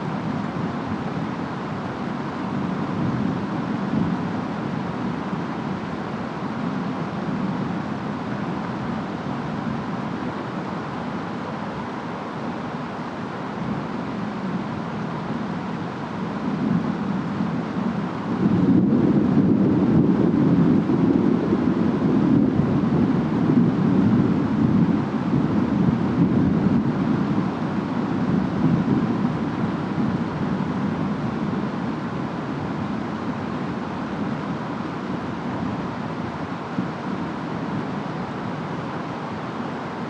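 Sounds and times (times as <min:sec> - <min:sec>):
distant rainstorm: 0:00.0 - 0:40.0
wind: 0:00.0 - 0:40.0.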